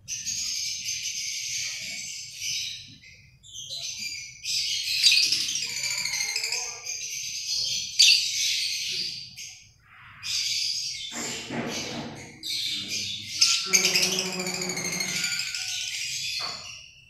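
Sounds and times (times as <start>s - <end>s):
lovebirds chirping and screeching: 0.0s - 17.0s.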